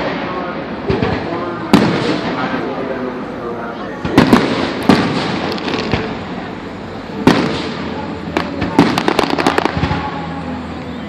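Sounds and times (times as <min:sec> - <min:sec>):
fireworks booming: 0:00.0 - 0:03.2, 0:04.0 - 0:10.3
fireworks crackling: 0:00.0 - 0:10.8.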